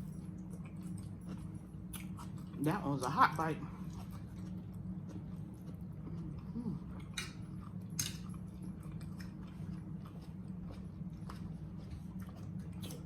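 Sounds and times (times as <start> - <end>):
close-up chewing: 0.0 - 13.0
steady low hum: 0.0 - 13.0.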